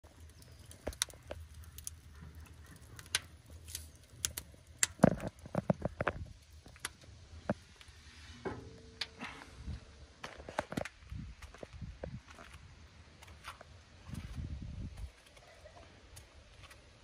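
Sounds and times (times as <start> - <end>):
logs crackling and popping: 0.0 - 17.0.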